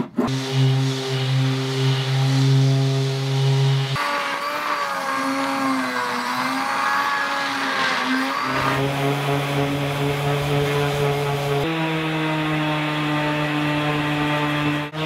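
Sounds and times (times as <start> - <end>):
electric sander running: 0.3 - 15.0.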